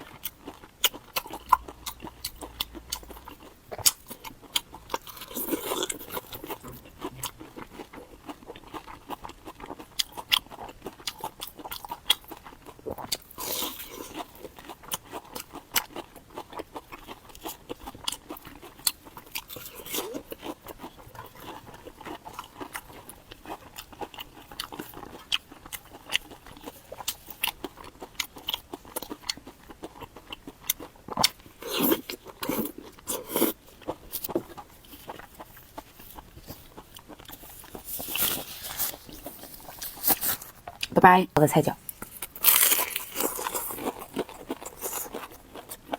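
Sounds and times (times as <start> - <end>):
person chewing food: 0.0 - 40.9, 41.8 - 45.9.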